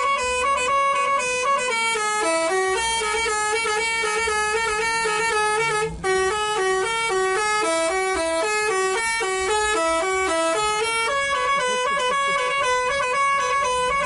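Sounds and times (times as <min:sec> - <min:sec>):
musical bus horn tune: 0:00.0 - 0:14.0.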